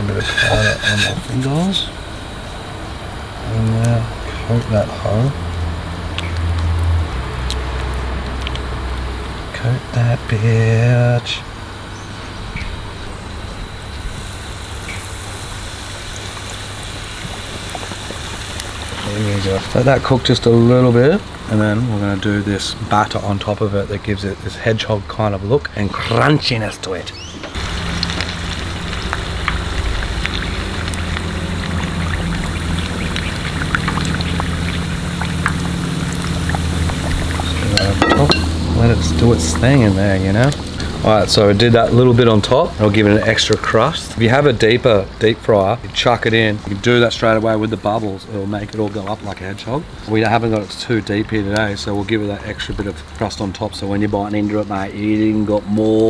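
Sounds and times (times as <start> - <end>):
steady low hum: 0.0 - 7.5, 8.4 - 46.0
oil sizzling and crackling: 0.0 - 11.1, 11.7 - 25.9, 26.5 - 56.0.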